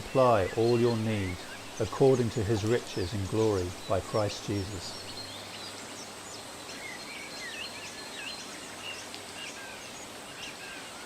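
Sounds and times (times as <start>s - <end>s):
small birds chirping and whistling: 0.0s - 11.0s
steady hiss: 0.0s - 11.0s.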